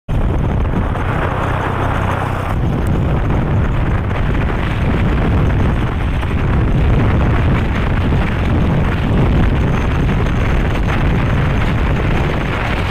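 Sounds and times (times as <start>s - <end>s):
vehicle engine hum: 0.1s - 12.9s
wind buffeting microphone: 0.1s - 12.9s.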